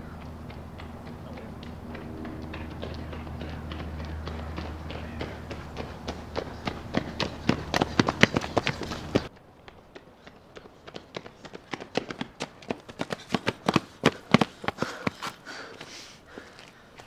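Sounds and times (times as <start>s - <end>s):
running footsteps: 0.0s - 17.0s.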